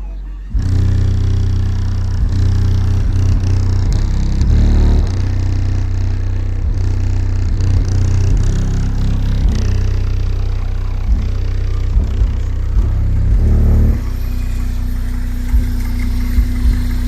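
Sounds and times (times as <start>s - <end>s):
bass-heavy music from subwoofers: 0.0s - 17.0s.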